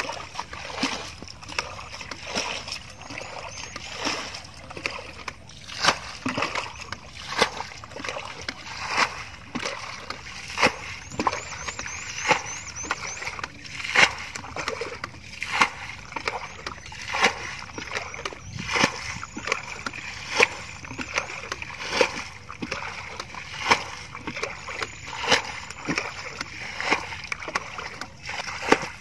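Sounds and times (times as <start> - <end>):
water splashing: 0.0 - 29.0.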